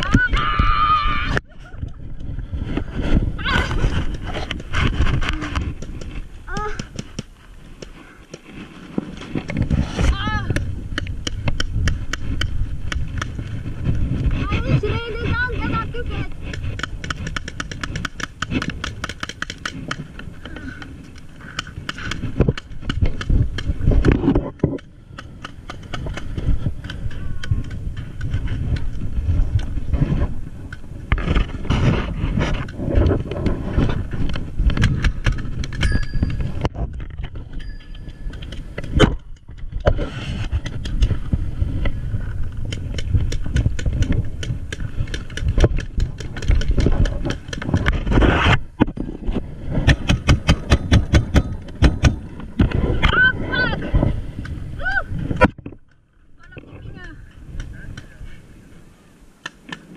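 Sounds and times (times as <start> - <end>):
clothing and gear rubbing microphone: 1.5 - 19.1, 21.3 - 51.3, 52.2 - 55.9.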